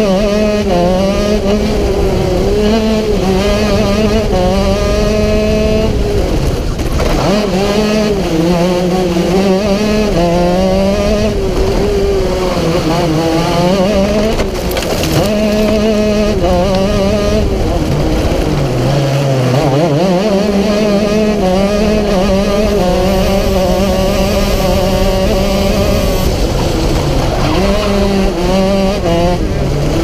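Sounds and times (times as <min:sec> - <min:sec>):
kart engine revving: 0:00.0 - 0:30.0.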